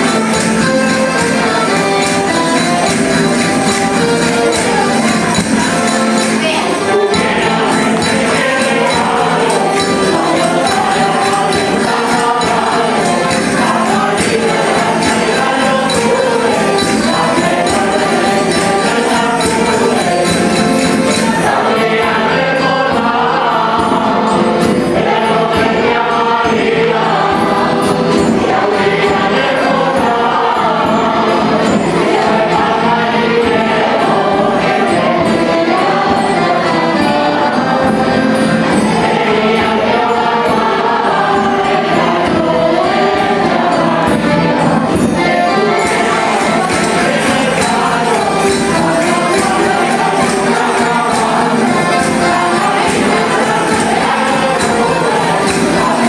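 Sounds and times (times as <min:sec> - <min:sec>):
accordion: 0:00.0 - 0:56.0
jingling percussion: 0:00.0 - 0:56.0
strummed guitars: 0:00.0 - 0:56.0
voices singing together: 0:00.0 - 0:56.0.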